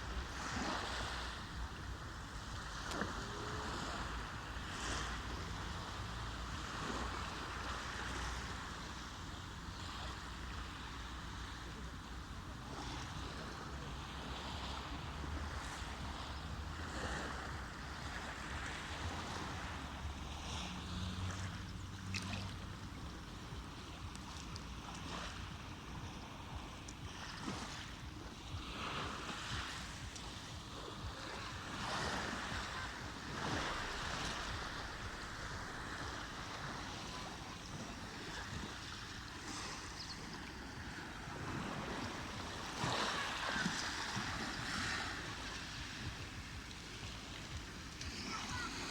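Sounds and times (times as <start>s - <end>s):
sea waves washing: 0.0s - 48.9s.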